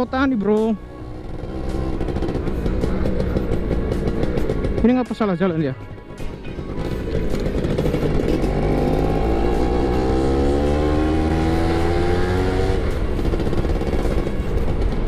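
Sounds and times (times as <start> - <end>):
two-stroke engine accelerating: 0.0 - 15.0.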